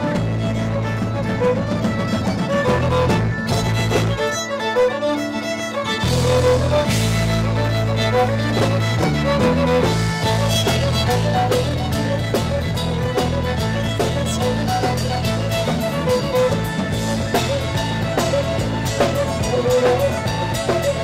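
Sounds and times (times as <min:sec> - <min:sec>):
amplified fiddle melody: 0:00.0 - 0:21.0
bass line: 0:00.0 - 0:21.0
drum kit beat: 0:00.0 - 0:21.0.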